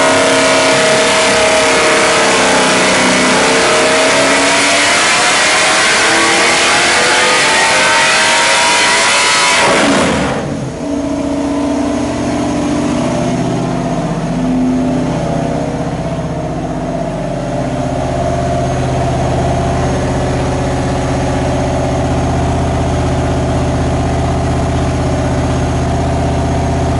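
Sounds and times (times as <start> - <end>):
engine revving at high rpm: 0.0 - 26.9.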